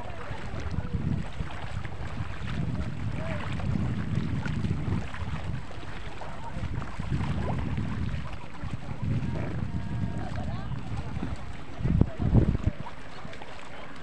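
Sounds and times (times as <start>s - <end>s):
faint distant voices: 0.0s - 14.0s
wind buffeting microphone: 0.0s - 14.0s.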